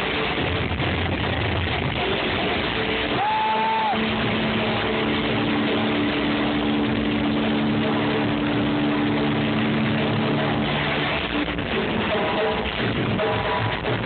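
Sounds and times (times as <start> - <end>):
distorted guitars: 0.0 - 14.0
live hard rock music: 0.0 - 14.0.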